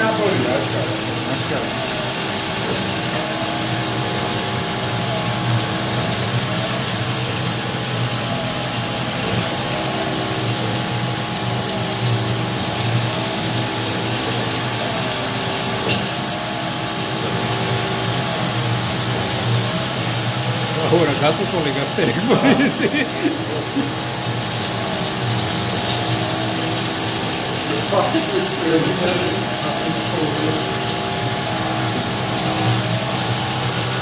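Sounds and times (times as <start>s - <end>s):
milling machine spindle hum: 0.0s - 34.0s.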